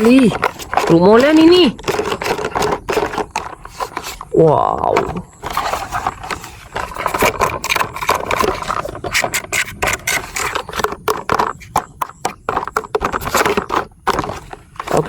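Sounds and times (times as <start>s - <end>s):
plastic toy scraping and clicking: 0.0s - 15.0s.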